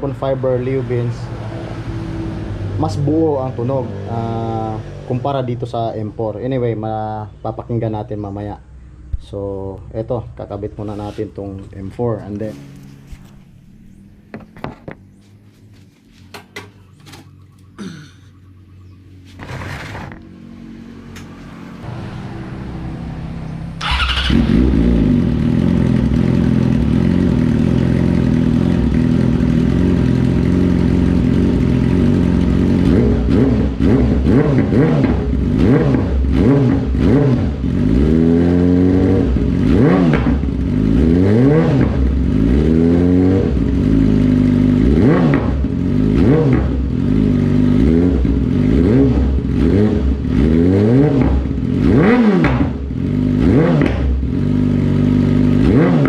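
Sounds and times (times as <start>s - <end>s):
motorcycle engine revving: 0.0s - 6.6s, 10.6s - 56.0s.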